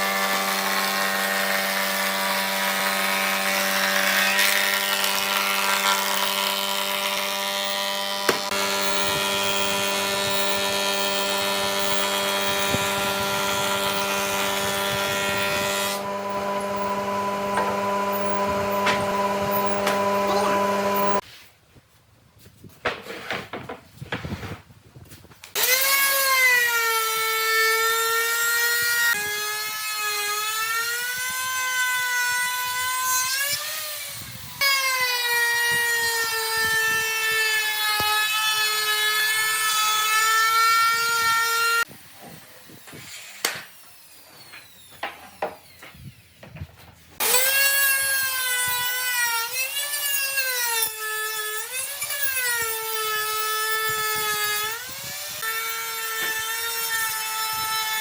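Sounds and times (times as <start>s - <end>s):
power tool whining cutting wood: 0.0s - 21.2s, 25.5s - 46.4s, 47.2s - 58.0s.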